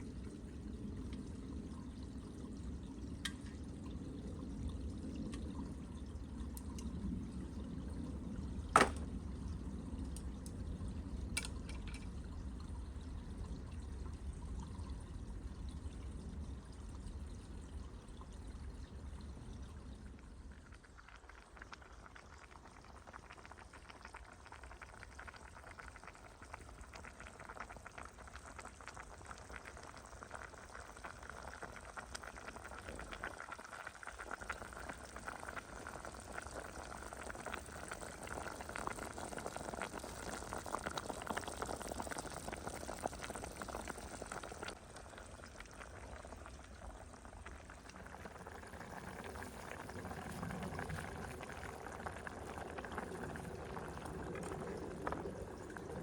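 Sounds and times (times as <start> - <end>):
liquid pouring into a pot: 0.0 - 56.0
soup bubbling in a pot: 0.0 - 56.0.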